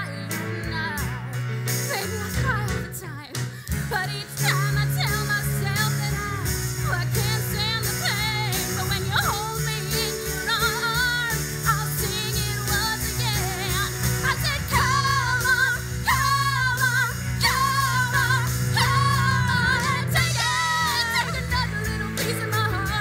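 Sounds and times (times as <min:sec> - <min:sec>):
pop band accompaniment: 0:00.0 - 0:23.0
woman singing: 0:00.0 - 0:23.0.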